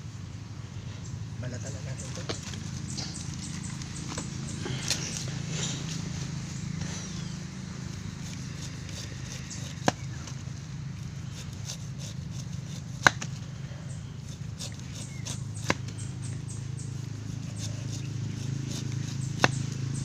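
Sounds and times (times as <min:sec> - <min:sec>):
knife slicing pineapple rind: 0:02.3 - 0:20.0.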